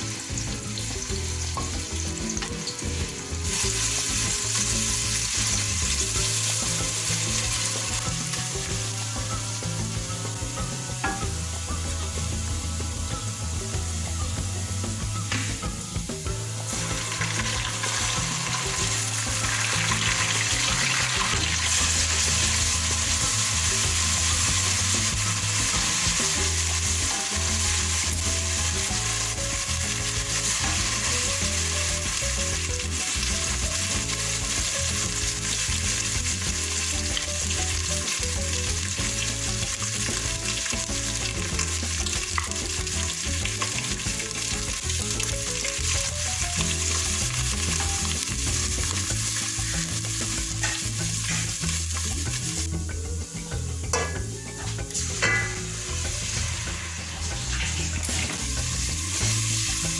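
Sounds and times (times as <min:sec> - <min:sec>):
food sizzling in hot oil: 0:00.0 - 0:59.9
soft background music: 0:00.0 - 0:59.9.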